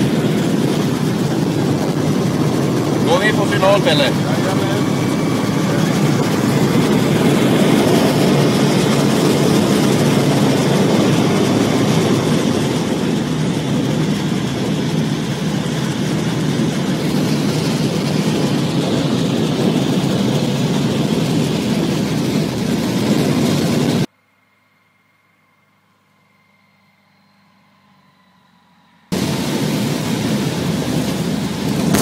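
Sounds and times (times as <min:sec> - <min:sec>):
light aircraft engine and propeller: 0:00.0 - 0:32.0.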